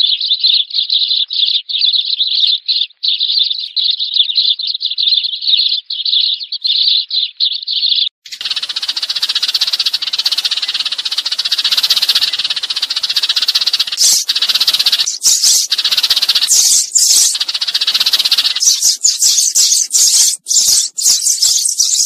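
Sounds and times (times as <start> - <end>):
loud high sparrow chirps: 0.0 - 22.0
sparrows rattling chatter: 0.0 - 22.0.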